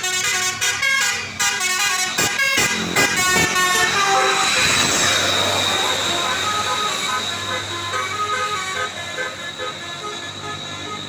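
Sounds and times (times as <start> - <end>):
musical air horn playing tune: 0.0 - 11.0
steady noisy rush: 0.0 - 11.0.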